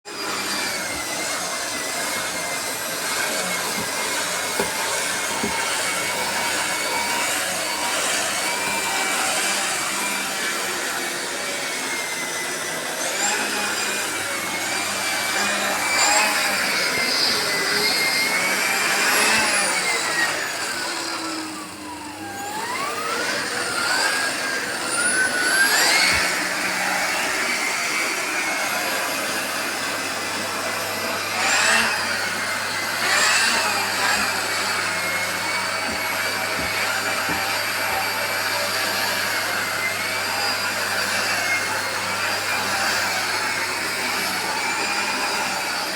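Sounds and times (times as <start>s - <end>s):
vacuum cleaner motor whining: 0.0s - 45.9s.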